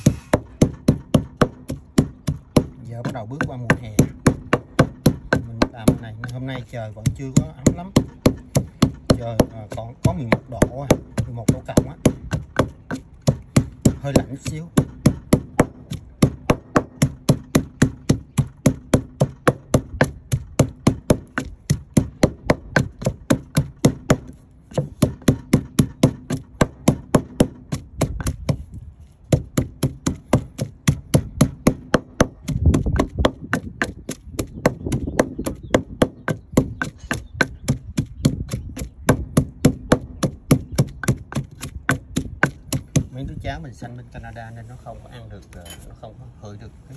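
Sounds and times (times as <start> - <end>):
pestle pounding in wooden mortar: 0.0 - 43.8.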